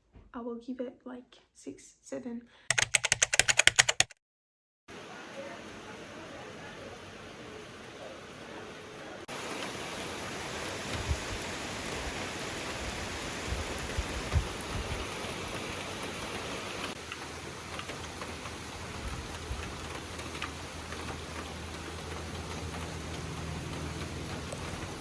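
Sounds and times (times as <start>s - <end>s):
steady rain hiss: 4.9s - 25.0s.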